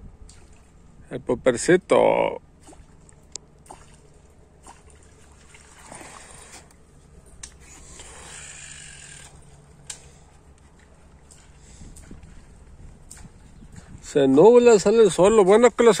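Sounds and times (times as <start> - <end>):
faint water sounds: 0.0 - 16.0
low steady hum: 0.0 - 16.0.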